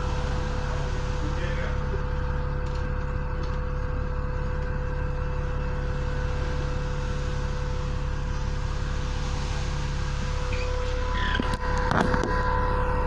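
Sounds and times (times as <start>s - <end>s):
diesel bus idling: 0.0s - 13.0s.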